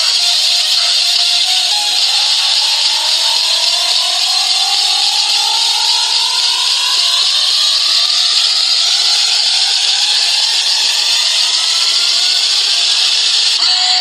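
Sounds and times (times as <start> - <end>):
loud steady hiss: 0.0 - 14.0.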